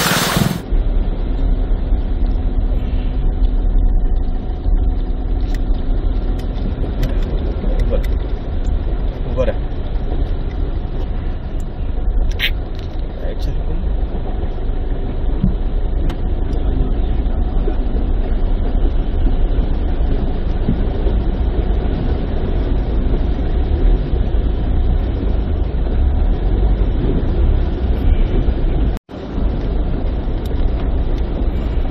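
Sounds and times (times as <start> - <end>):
loud deep rumbling noise: 0.0 - 31.9.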